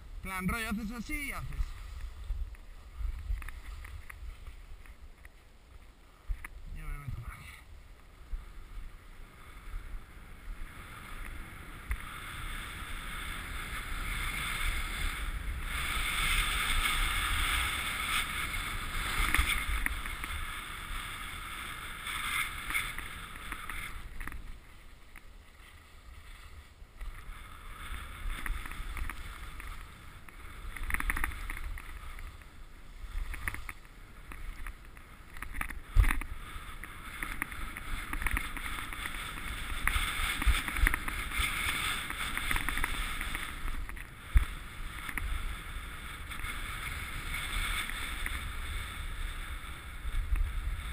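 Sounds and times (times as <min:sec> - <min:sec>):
snow hissing and scraping: 0:00.0 - 0:50.9
wind rumbling on microphone: 0:00.0 - 0:50.9.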